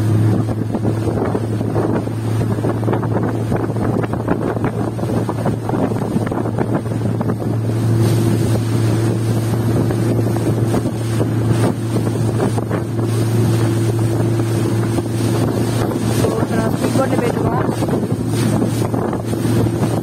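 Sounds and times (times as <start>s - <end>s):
boat hitting choppy water: 0.0s - 20.0s
speedboat engine running: 0.0s - 20.0s
wind buffeting microphone: 0.0s - 20.0s.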